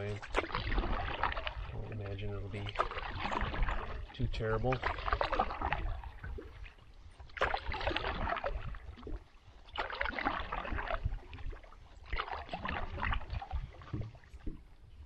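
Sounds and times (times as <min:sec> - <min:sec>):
paddle swishing and splashing: 0:00.0 - 0:15.0.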